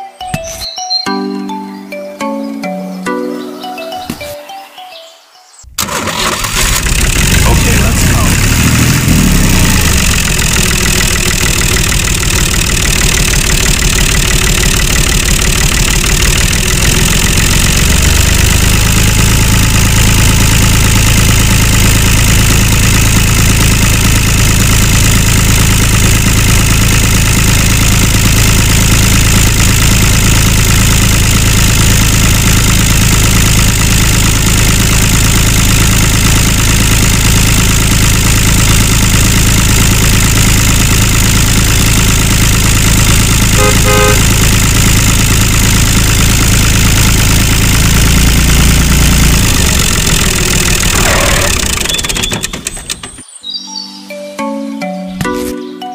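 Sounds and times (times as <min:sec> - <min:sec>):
tractor engine running: 0:05.7 - 0:53.3.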